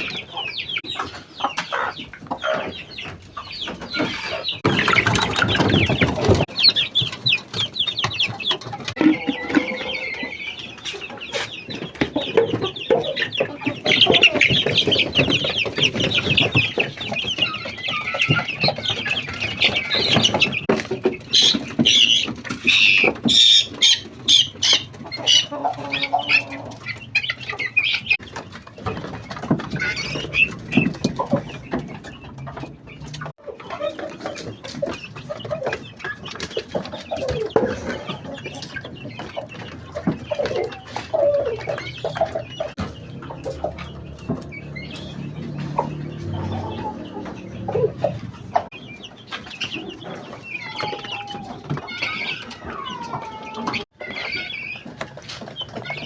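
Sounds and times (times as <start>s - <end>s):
birds calling and chattering: 0.0s - 56.0s.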